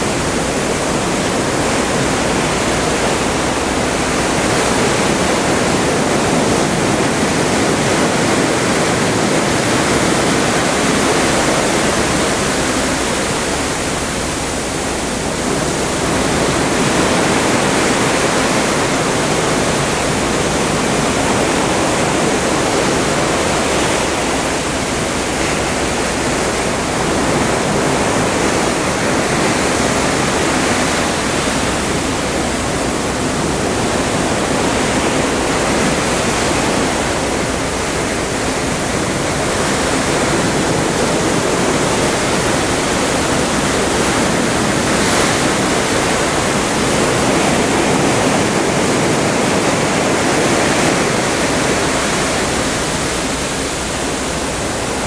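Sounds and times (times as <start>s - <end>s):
water rushing past ship hull: 0.0s - 55.0s.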